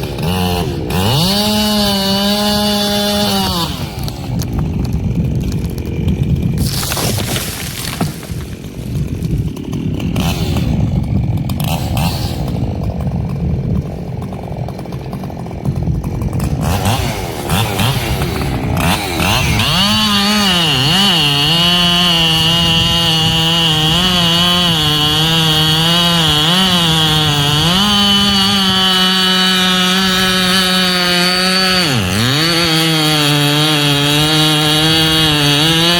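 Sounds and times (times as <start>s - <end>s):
chainsaw running: 0.0s - 35.9s.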